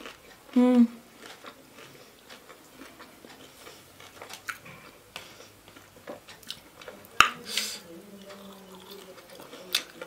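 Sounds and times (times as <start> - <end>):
person chewing crispy food: 0.0 - 10.0.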